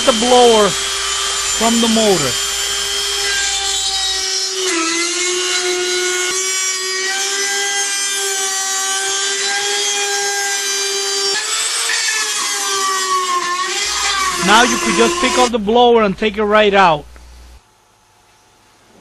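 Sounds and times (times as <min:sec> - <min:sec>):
rotary tool whining: 0:00.0 - 0:15.6.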